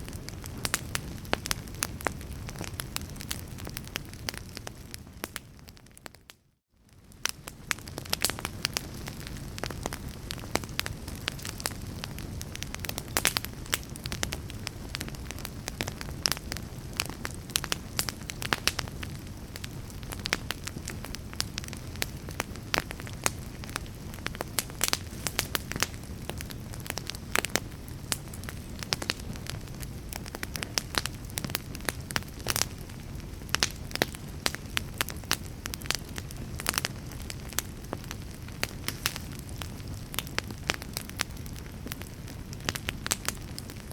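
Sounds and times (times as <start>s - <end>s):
fire crackling and popping: 0.0s - 43.9s
low rumble of burning: 0.0s - 43.9s.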